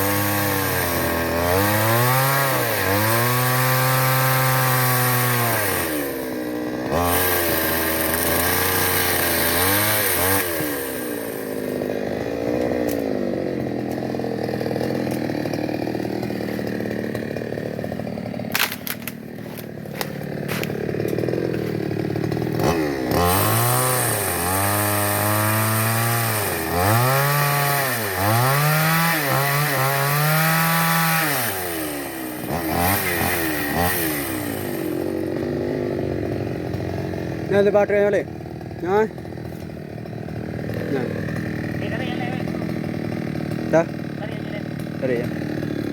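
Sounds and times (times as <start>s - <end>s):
chainsaw engine revving: 0.0s - 45.9s.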